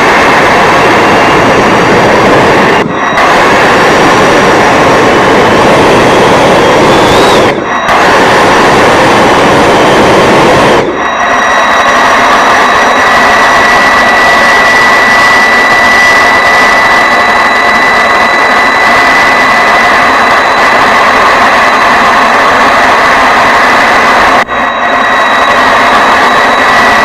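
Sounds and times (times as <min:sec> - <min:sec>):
high whine: 0:00.0 - 0:27.0
model jet fan rushing: 0:00.0 - 0:27.0.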